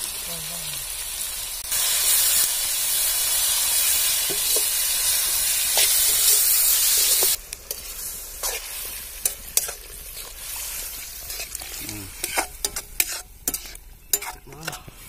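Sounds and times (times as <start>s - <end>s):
meat and onions sizzling: 0.0s - 15.0s.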